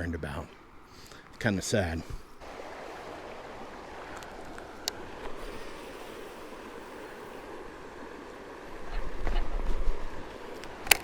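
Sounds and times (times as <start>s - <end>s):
river water rushing: 0.6s - 11.0s.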